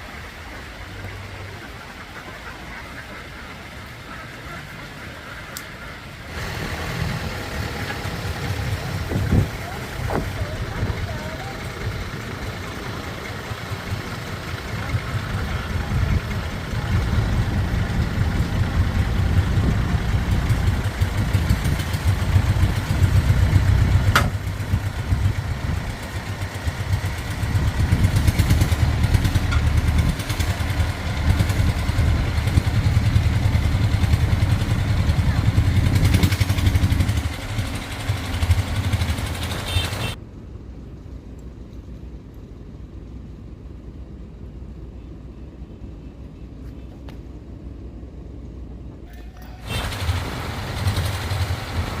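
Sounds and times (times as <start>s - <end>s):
engine rumbling: 0.0s - 52.0s.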